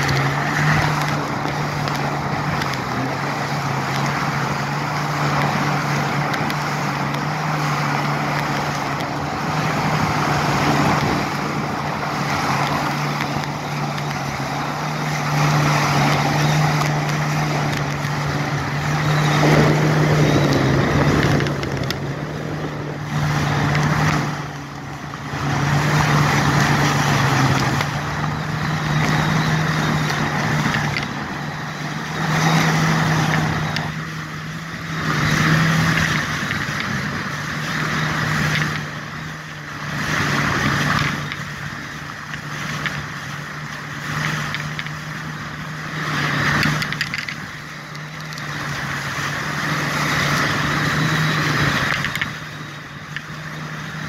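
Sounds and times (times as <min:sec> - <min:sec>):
jet ski engine running: 0:00.0 - 0:54.0
water spray rushing: 0:00.0 - 0:54.0
wind: 0:00.0 - 0:54.0.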